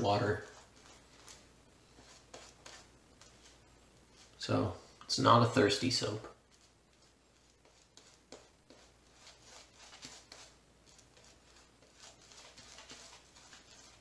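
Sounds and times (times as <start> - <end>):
shaving brush swishing lather: 0.0 - 4.7, 6.4 - 14.0.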